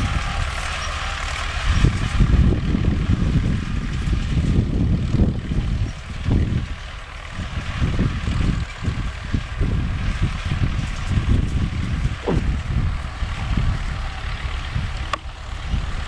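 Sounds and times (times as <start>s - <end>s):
tractor diesel engine rumbling: 0.0s - 16.0s.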